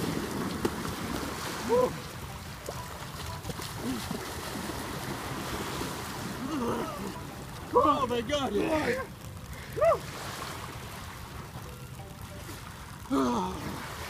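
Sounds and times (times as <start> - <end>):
people wading and splashing: 0.0 - 14.0
water rushing and sloshing: 0.0 - 14.0.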